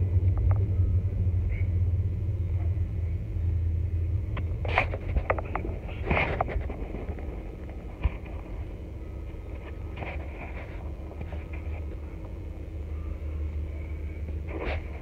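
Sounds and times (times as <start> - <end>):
car rumble inside cabin: 0.0 - 15.0.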